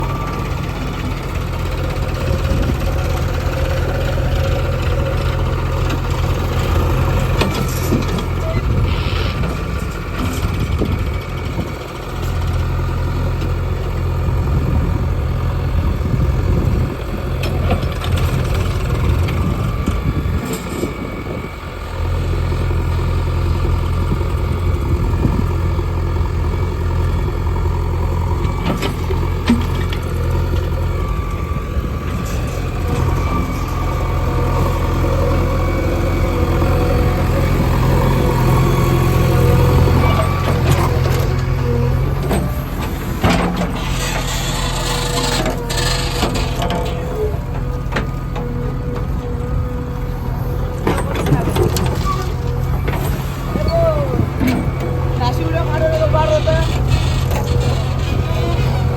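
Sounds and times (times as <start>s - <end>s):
diesel engine running under load: 0.0s - 58.9s.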